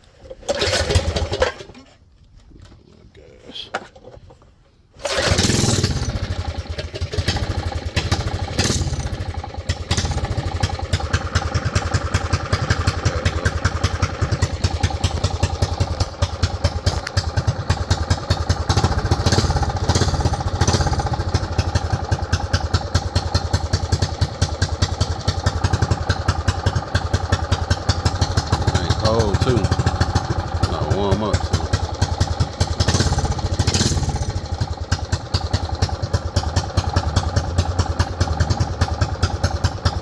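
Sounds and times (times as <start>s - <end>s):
small engine starting and idling: 0.0s - 2.8s, 4.9s - 40.0s.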